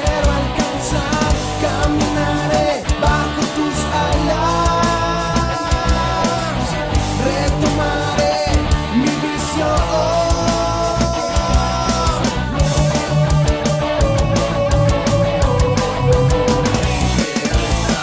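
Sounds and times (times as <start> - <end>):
drums steady beat: 0.0 - 18.0
rock band music: 0.0 - 18.0.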